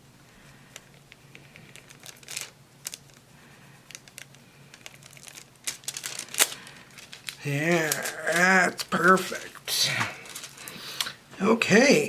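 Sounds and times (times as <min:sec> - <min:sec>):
foil clicking and crinkling: 0:00.4 - 0:11.2.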